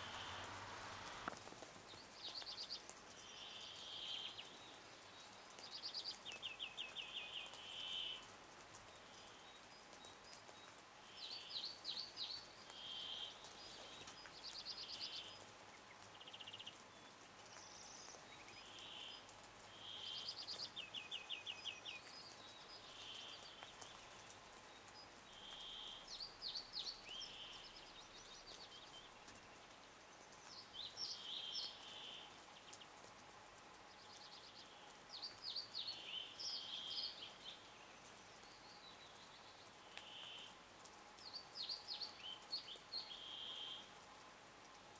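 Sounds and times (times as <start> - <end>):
songbird singing whistled notes: 1.9 - 8.2, 9.0 - 15.4, 16.1 - 29.2, 30.4 - 32.8, 34.0 - 40.5, 41.2 - 43.9.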